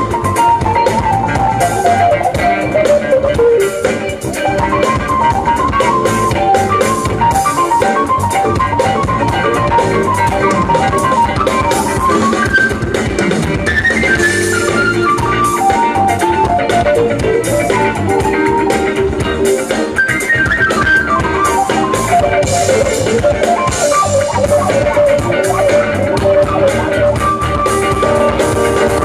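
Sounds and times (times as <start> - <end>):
lead guitar line: 0.0 - 29.0
live band playing: 0.0 - 29.0.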